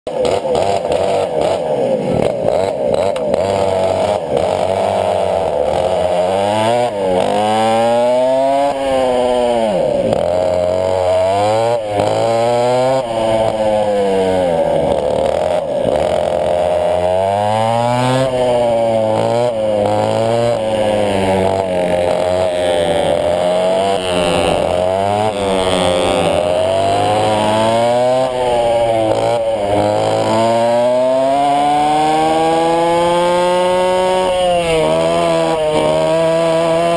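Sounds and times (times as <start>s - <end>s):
two-stroke kart engines revving: 0.1s - 36.9s.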